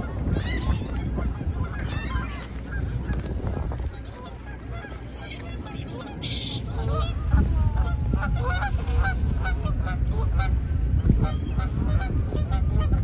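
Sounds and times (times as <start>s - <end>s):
gulls squawking: 0.0s - 13.0s
low rumble: 0.0s - 13.0s.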